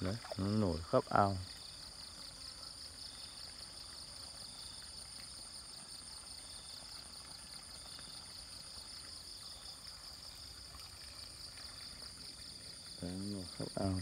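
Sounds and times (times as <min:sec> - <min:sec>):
insects chirring: 0:00.0 - 0:14.0
running water: 0:00.0 - 0:14.0.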